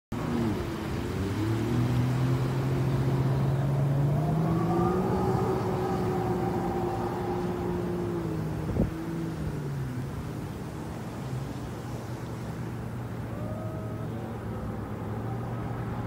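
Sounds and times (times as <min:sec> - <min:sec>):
jet ski engine running: 0:00.2 - 0:16.0.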